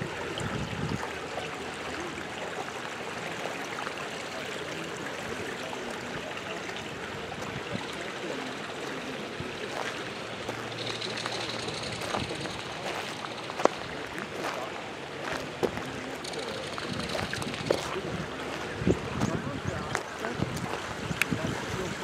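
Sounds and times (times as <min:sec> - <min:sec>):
water rushing through channels: 0:00.0 - 0:22.0.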